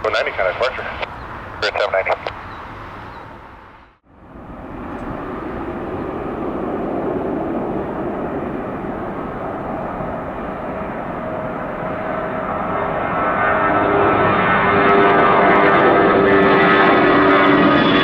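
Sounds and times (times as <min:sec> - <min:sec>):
jet airliner engine noise: 0:00.0 - 0:18.0.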